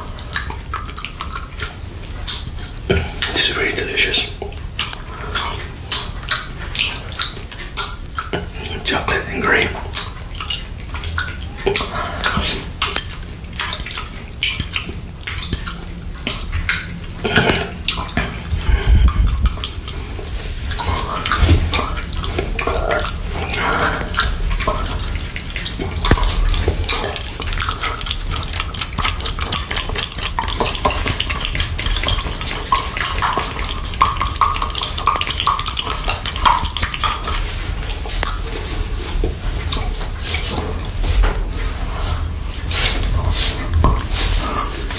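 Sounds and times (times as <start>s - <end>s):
wet mouth licking and smacking: 0.0s - 44.9s.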